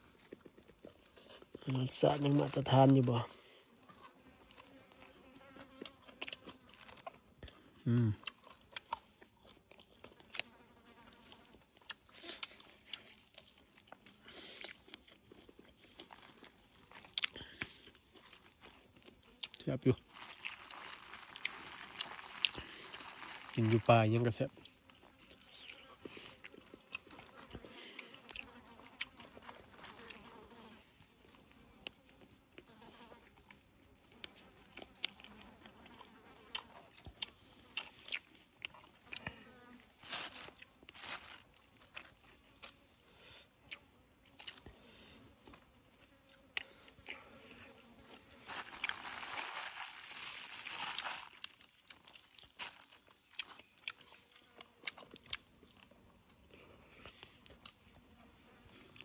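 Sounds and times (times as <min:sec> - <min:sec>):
person chewing food: 0:00.0 - 0:02.5, 0:03.3 - 0:23.8, 0:24.5 - 0:58.0, 0:58.6 - 0:59.0.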